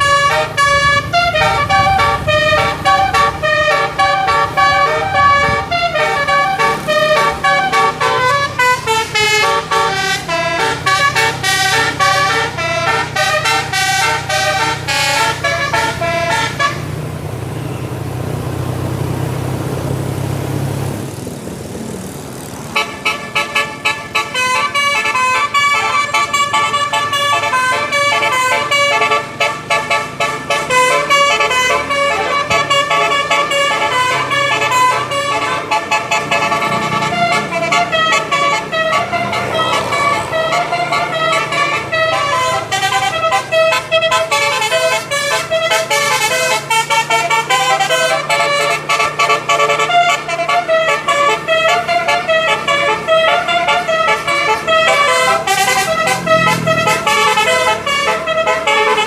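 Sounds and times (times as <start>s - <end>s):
musical air horn melody: 0.0s - 16.9s, 22.8s - 59.0s
road noise: 0.0s - 59.0s
vehicle engine: 0.0s - 59.0s.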